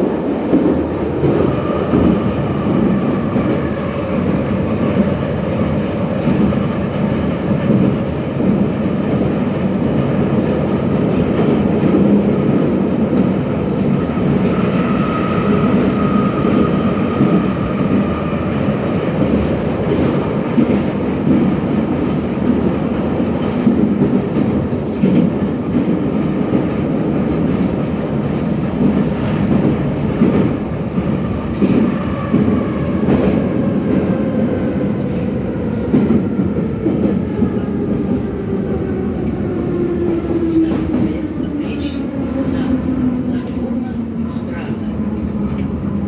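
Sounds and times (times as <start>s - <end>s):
metro train wheels rumbling: 0.0s - 46.0s.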